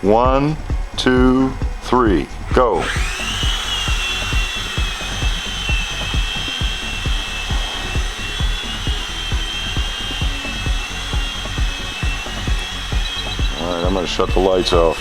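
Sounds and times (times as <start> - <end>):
low thumping beat: 0.0 - 15.0
toy helicopters whining: 1.9 - 15.0.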